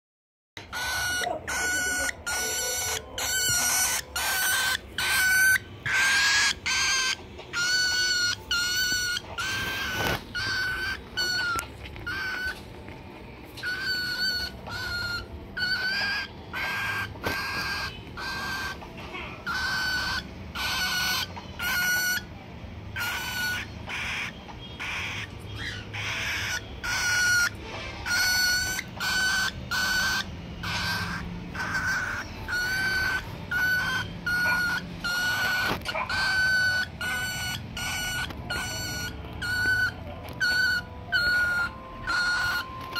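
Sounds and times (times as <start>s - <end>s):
cockatiel chirping: 0.6s - 42.9s.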